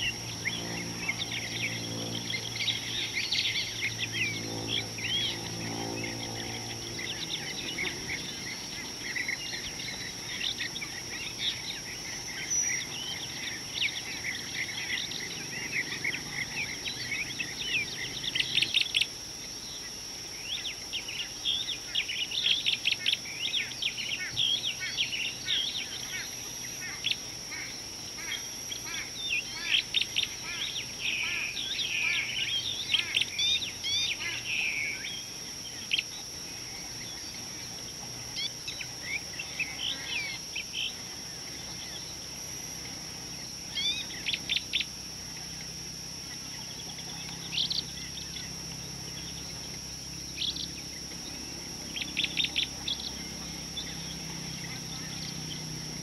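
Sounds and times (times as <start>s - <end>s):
birds chirping and whistling: 0.0s - 56.0s
high-pitched insect drone: 0.0s - 56.0s
low hum: 0.0s - 56.0s.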